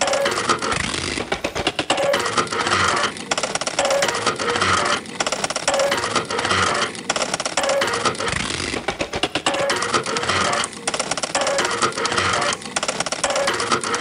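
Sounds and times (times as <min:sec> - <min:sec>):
sewing machine rapid clicking: 0:00.0 - 0:14.0.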